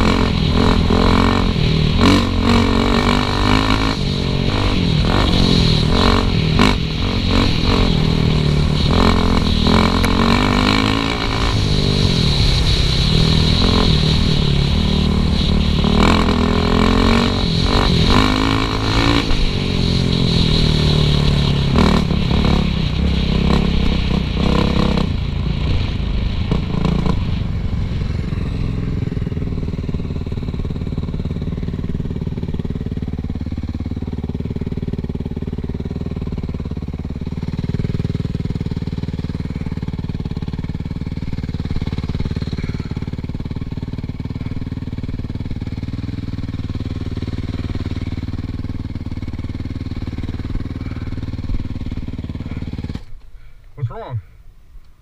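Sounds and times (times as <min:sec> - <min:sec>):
dirt bike engine revving: 0:00.0 - 0:25.2, 0:29.3 - 0:53.1.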